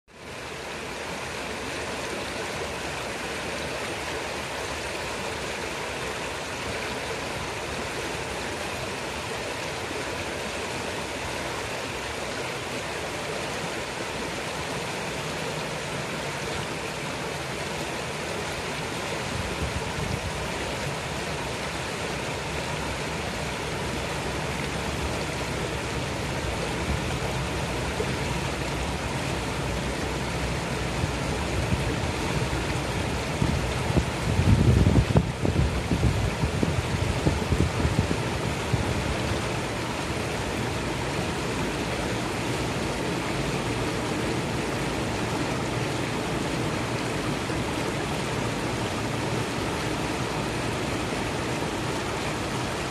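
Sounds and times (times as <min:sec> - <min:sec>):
river rushing over stones: 0:00.1 - 0:52.9.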